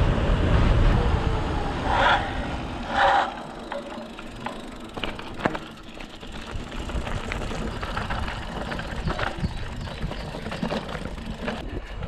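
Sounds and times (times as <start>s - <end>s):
mountain bike rattling: 1.8s - 12.0s.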